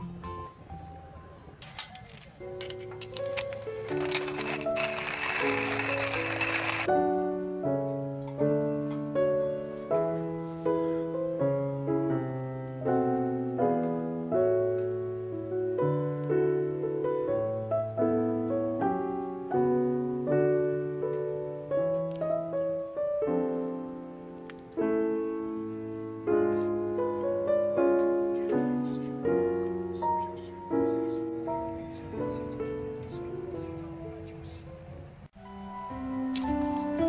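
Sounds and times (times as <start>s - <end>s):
gentle piano melody: 0.0s - 37.0s.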